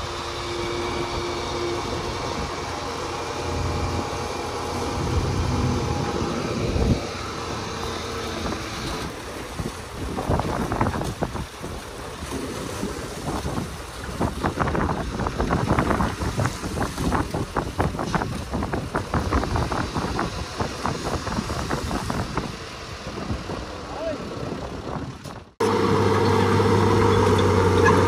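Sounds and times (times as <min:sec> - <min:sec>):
heavy diesel machinery running: 0:00.0 - 0:28.0
wind buffeting microphone: 0:00.6 - 0:25.6.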